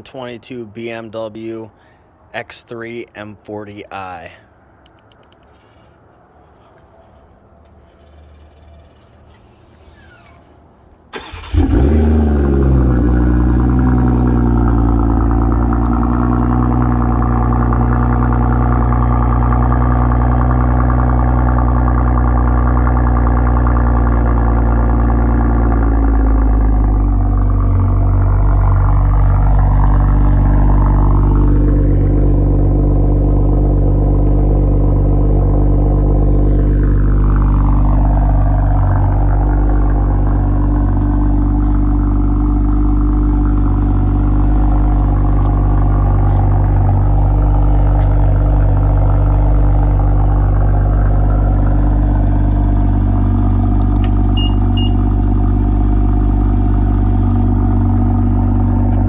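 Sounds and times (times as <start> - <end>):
car engine idling: 4.5 - 59.0.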